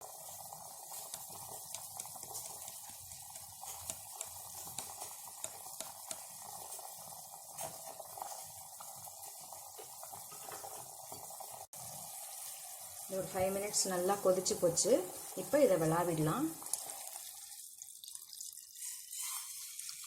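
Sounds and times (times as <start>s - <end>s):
pot boiling with bubbling: 0.0s - 20.0s.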